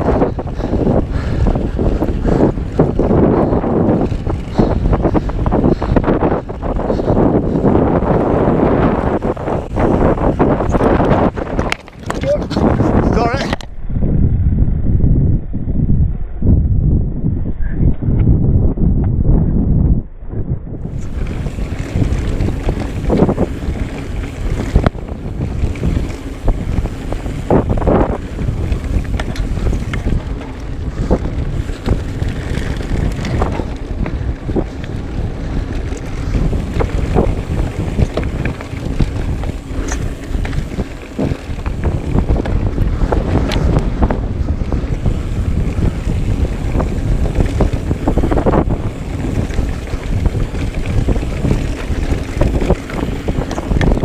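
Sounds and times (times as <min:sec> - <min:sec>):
bike knocks and rattles: 0:00.0 - 0:13.8, 0:20.8 - 0:54.0
wind buffeting microphone: 0:00.0 - 0:54.0.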